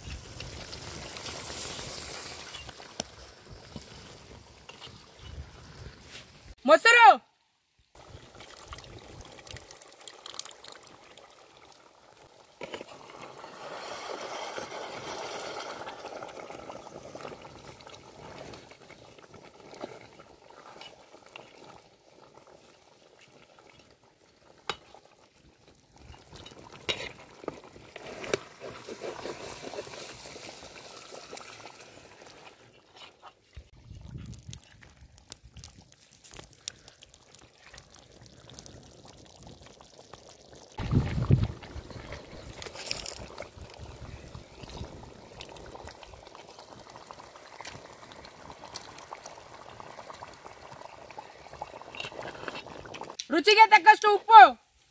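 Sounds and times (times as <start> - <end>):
food bubbling and stirring in pot: 0.0 - 6.0, 7.9 - 53.3.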